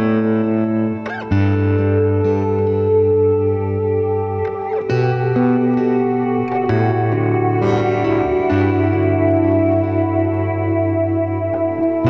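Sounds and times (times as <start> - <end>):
ambient music with sustained chords: 0.0 - 12.0.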